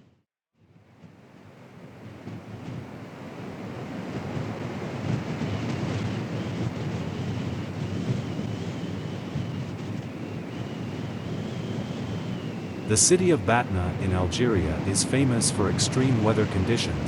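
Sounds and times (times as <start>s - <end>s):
storm wind on microphone: 0.7s - 17.0s.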